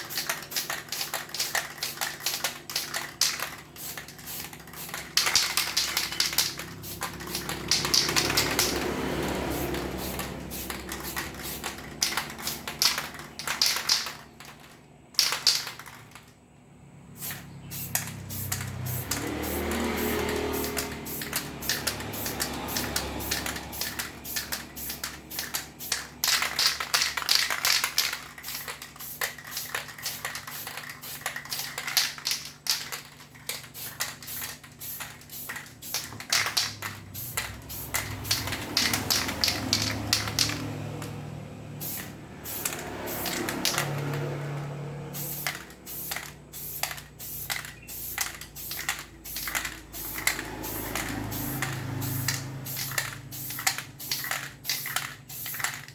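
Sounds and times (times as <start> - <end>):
spray paint hissing: 0.0 - 16.3, 17.1 - 41.1, 41.8 - 44.2, 45.1 - 55.9
spray can ball rattling: 0.0 - 16.4, 17.1 - 41.2, 41.8 - 55.9.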